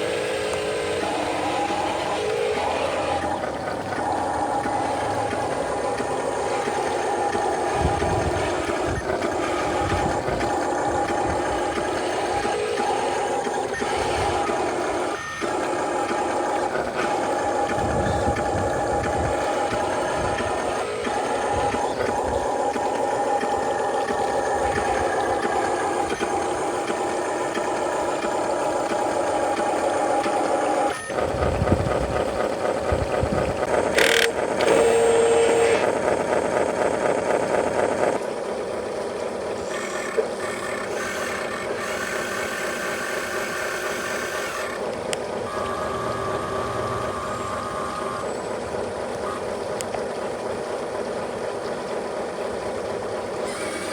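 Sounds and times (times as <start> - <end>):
model truck engine running: 0.0 - 53.9.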